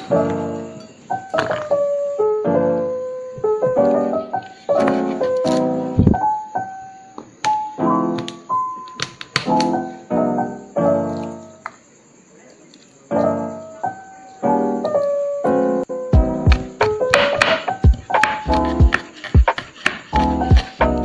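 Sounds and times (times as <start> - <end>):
gentle piano music: 0.0 - 12.3, 12.9 - 21.0.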